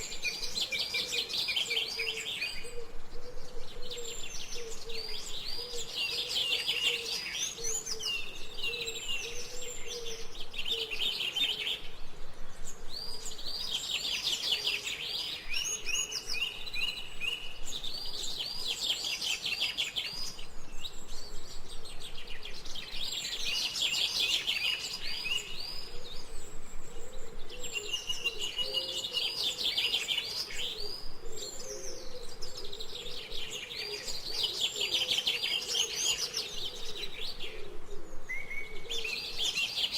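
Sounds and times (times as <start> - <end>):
songbirds chirping trills: 0.0 - 39.9.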